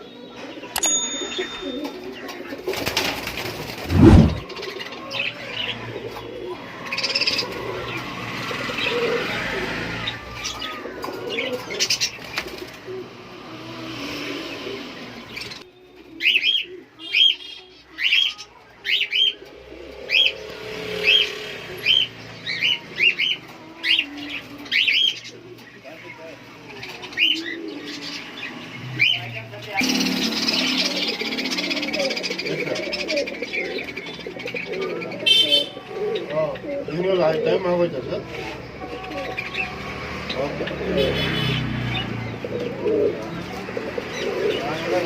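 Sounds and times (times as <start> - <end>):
pigeons cooing: 0.0 - 17.4, 18.0 - 45.0
small birds calling: 0.0 - 45.0.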